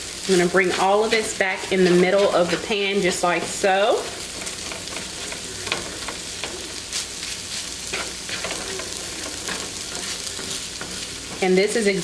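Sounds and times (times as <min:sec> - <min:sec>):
food sizzling in a frying pan: 0:00.0 - 0:12.0
spatula scraping a pan: 0:00.2 - 0:12.0.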